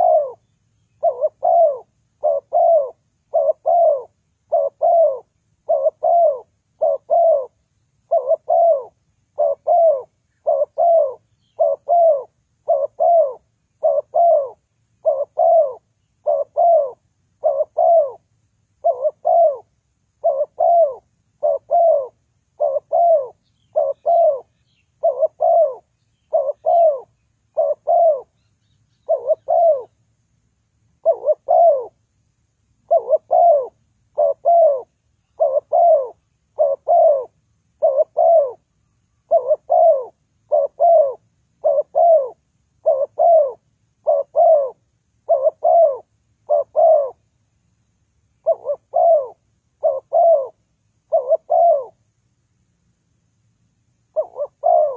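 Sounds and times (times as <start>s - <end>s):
dove cooing: 0.0s - 30.0s, 31.0s - 32.0s, 32.8s - 47.2s, 48.4s - 52.0s, 54.1s - 54.9s.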